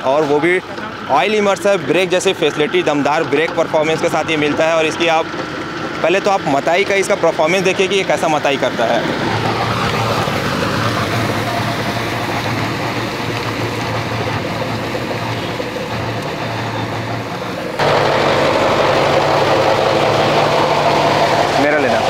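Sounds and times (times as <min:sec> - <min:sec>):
tractor diesel engine running: 0:00.0 - 0:22.0
rotavator churning wet field: 0:00.6 - 0:22.0.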